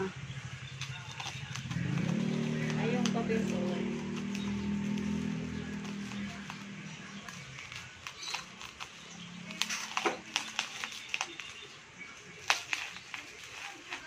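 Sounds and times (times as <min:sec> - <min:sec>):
bubble wrap crinkling: 0:00.7 - 0:14.0.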